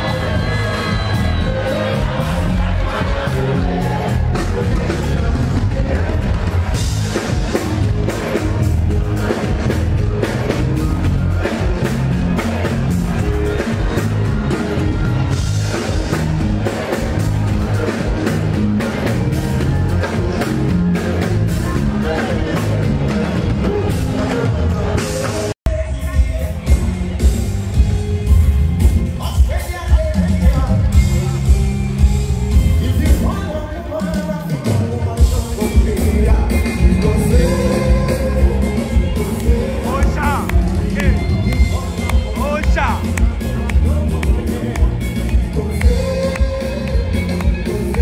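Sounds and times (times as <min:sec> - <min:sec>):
heavy bass beat: 0:00.0 - 0:33.6, 0:35.2 - 0:48.0
live concert music over pa: 0:00.0 - 0:48.0.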